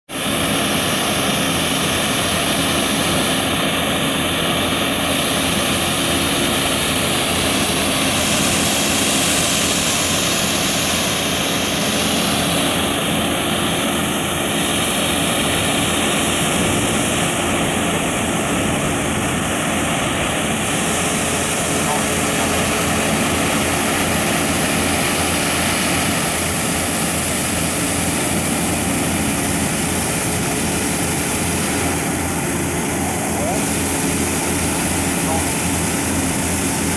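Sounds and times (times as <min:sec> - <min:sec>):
engine and pumps droning: 0:00.1 - 0:36.9
water jet hiss: 0:00.2 - 0:36.9.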